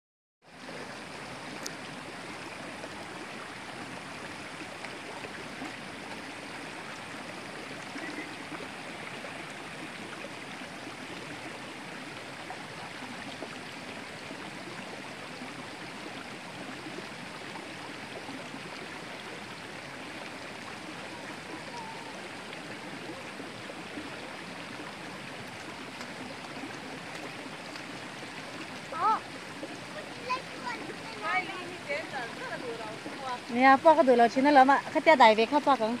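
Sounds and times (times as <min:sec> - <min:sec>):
stream running over rocks: 0:00.4 - 0:36.0.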